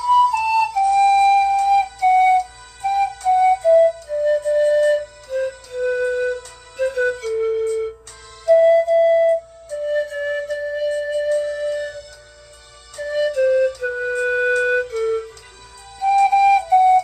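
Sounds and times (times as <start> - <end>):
pan flute melody: 0.0 - 17.0.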